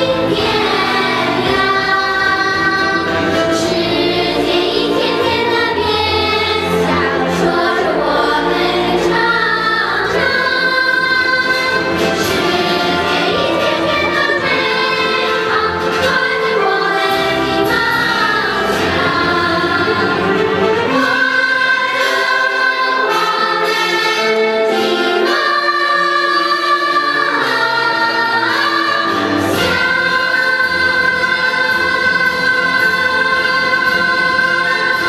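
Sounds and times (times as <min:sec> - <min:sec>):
children's choir singing: 0:00.0 - 0:35.0
musical accompaniment: 0:00.0 - 0:35.0.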